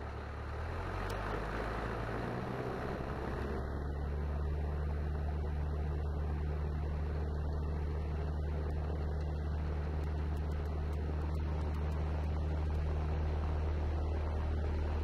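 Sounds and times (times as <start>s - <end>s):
propeller aircraft engine drone: 0.0s - 15.0s.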